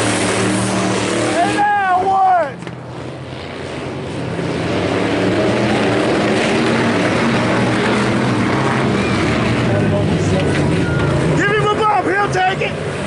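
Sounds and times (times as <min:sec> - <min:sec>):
race car engines at speed: 0:00.0 - 0:13.0.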